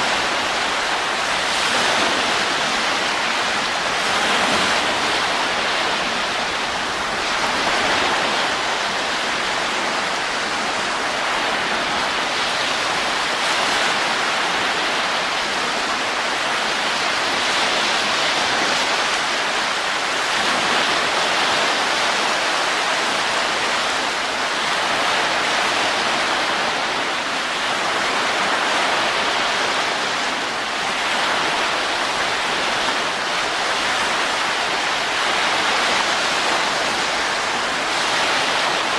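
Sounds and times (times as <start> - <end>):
rushing wind: 0.0 - 38.9.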